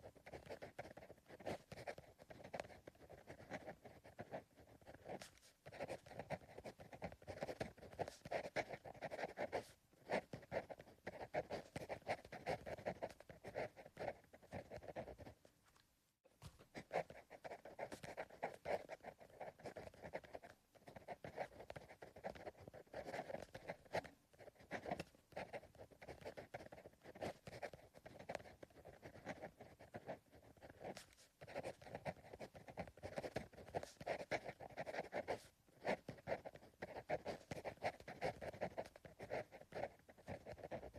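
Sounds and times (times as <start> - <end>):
pencil scratching on paper: 0.0 - 15.5, 16.4 - 40.9.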